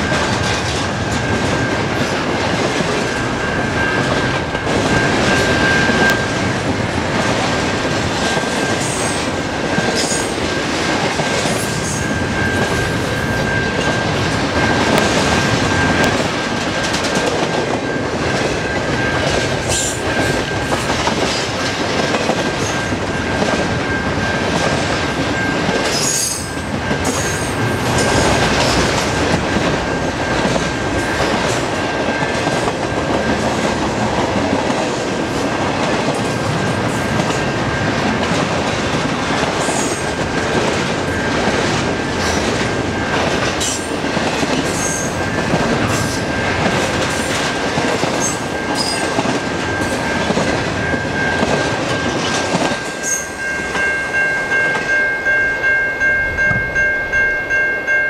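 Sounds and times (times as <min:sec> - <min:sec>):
steel train wheels rumbling on rail: 0:00.0 - 0:58.0.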